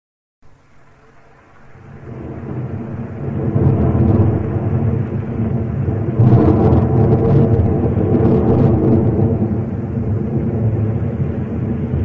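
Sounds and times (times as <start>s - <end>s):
thunder rumbling: 0.5s - 12.0s.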